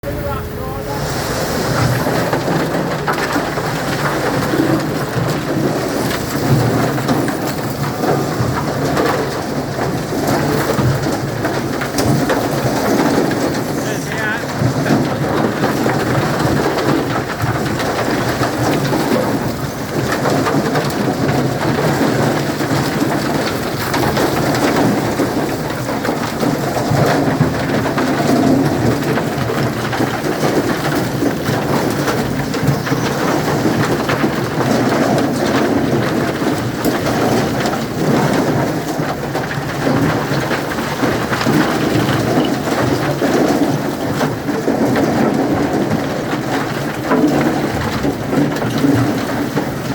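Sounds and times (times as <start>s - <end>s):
concrete mixer drum rattling: 0.0s - 49.9s.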